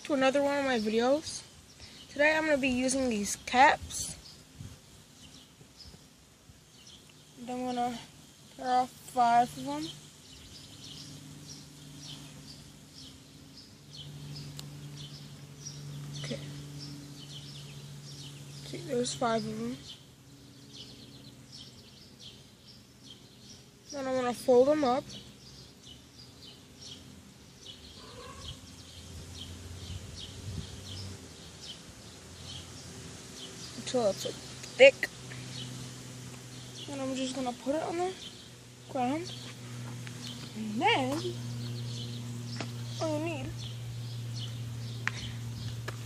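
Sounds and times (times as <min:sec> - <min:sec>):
bird chirping: 0:00.0 - 0:46.0
low steady hum: 0:00.0 - 0:46.0.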